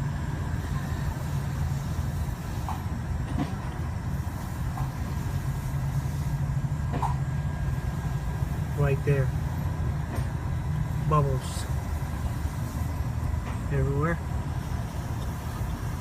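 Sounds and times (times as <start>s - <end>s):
machinery droning: 0.0s - 16.0s.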